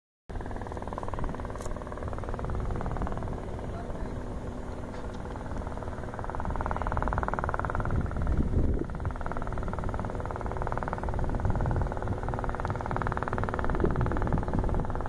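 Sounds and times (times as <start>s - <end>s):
helicopter rotor beating: 0.3s - 15.0s.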